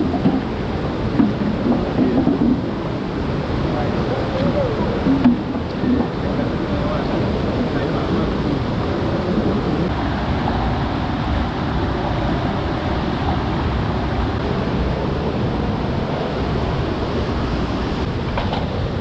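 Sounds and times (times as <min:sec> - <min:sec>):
rushing water: 0:00.0 - 0:19.0
wind buffeting microphone: 0:00.0 - 0:19.0.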